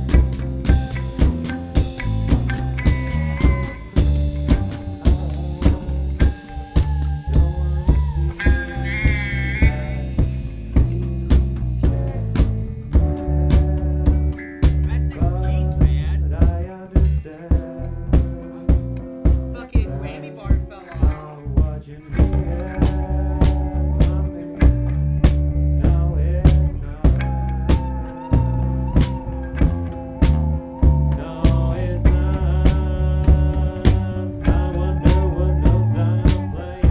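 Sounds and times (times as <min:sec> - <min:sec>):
bass line: 0:00.0 - 0:36.9
bending guitar notes: 0:00.0 - 0:36.9
drum kit beat: 0:00.0 - 0:36.9.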